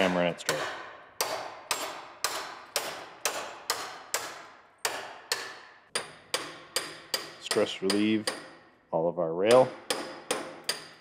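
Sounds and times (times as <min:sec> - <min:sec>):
hammer striking steel rail: 0:00.0 - 0:08.6, 0:09.5 - 0:11.0.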